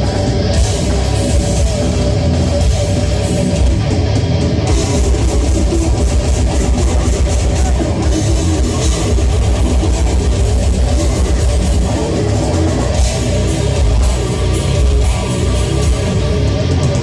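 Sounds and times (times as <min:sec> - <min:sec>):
distorted electric guitars: 0:00.0 - 0:17.0
drum kit fast beat: 0:00.0 - 0:17.0.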